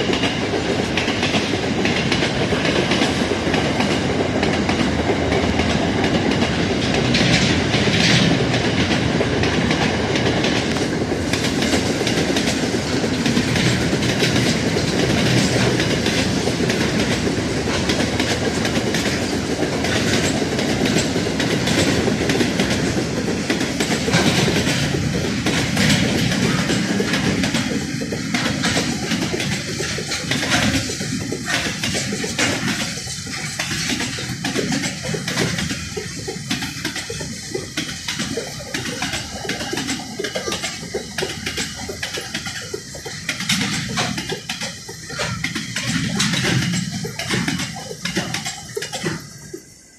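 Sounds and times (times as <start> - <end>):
freight train wheels clickety-clack: 0.0 - 49.9.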